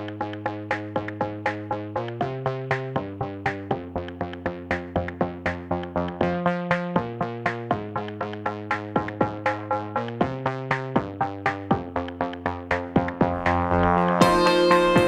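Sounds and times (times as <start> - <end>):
electronic synthesizer music: 0.0 - 15.0.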